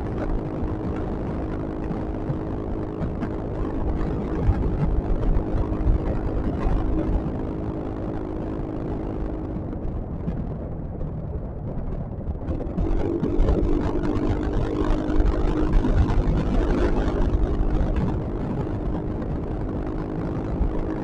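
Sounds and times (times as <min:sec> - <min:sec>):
scooter engine hum: 0:00.0 - 0:21.0
wind rumble on microphone: 0:00.0 - 0:21.0.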